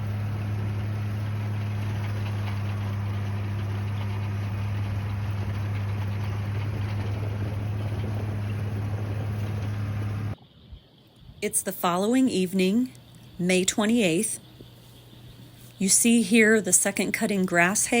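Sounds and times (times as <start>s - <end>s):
tractor engine running: 0.0s - 10.4s, 11.8s - 18.0s.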